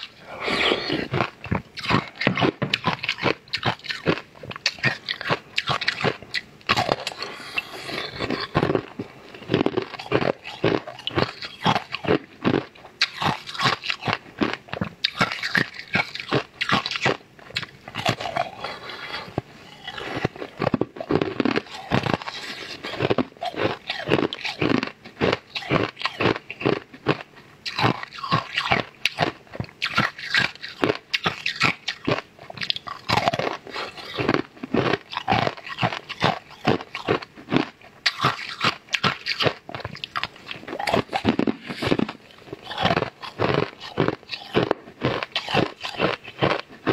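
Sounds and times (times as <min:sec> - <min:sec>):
person crunching hard candy: 0:00.0 - 0:46.9.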